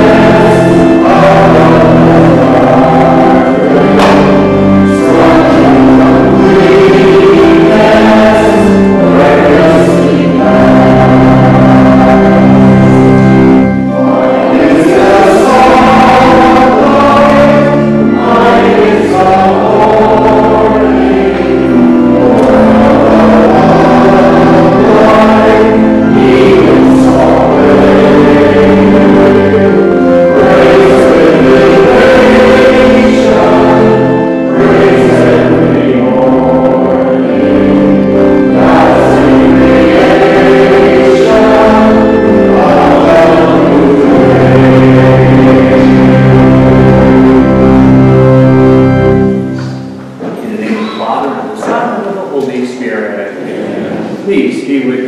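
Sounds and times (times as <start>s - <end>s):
choir singing a hymn: 0.0s - 52.1s, 52.7s - 55.0s
organ: 0.0s - 55.0s.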